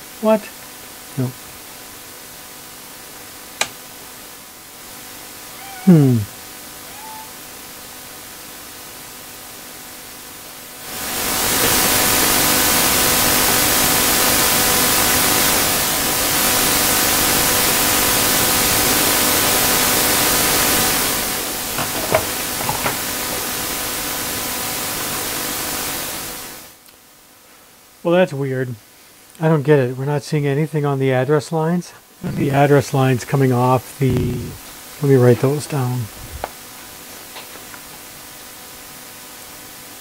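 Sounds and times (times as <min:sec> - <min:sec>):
faint electrical hum: 0:00.0 - 0:40.0
loud static-like hiss: 0:00.0 - 0:40.0.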